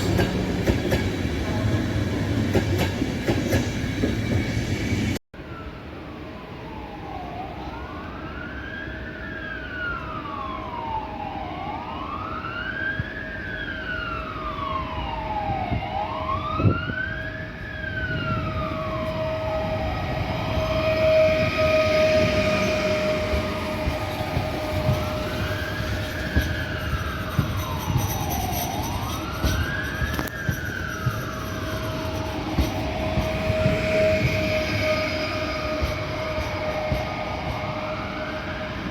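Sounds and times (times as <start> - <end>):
siren wailing: 5.4 - 38.9.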